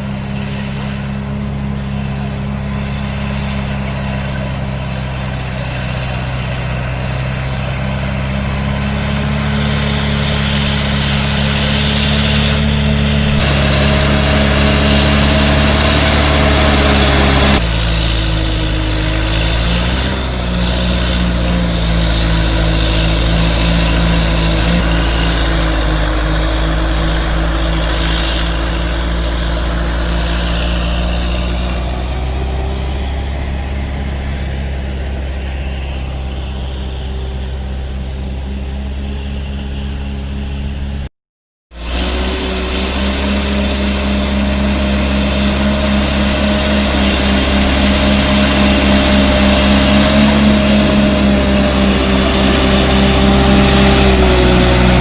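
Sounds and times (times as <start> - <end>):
heavy diesel engine under load: 0.0 - 41.1, 41.7 - 55.0.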